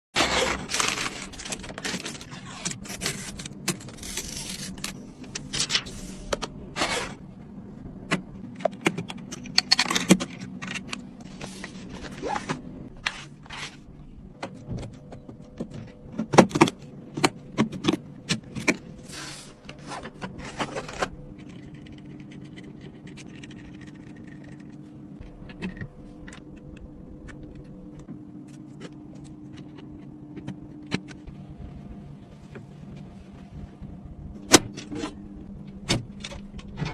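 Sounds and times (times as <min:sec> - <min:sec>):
computer parts clicking and scraping: 0:00.2 - 0:07.2, 0:08.5 - 0:31.3
steady low hum: 0:00.2 - 0:36.9.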